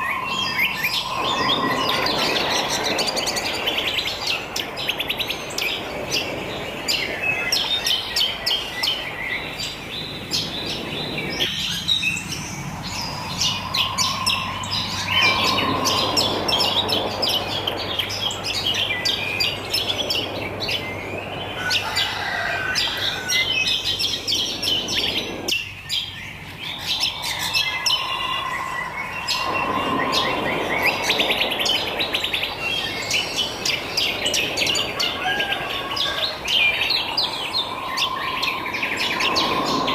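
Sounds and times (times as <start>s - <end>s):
birds chirping and twittering: 0.0s - 39.9s
steady background noise: 0.0s - 39.9s.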